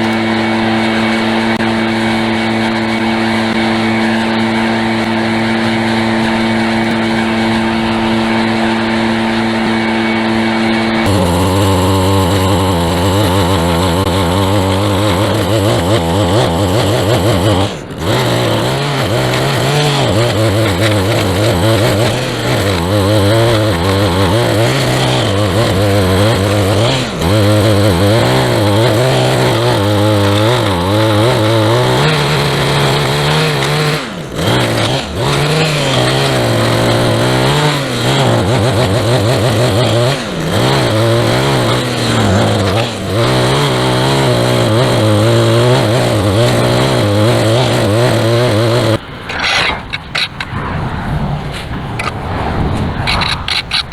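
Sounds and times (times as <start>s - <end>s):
small gasoline engine running: 0.0s - 50.3s.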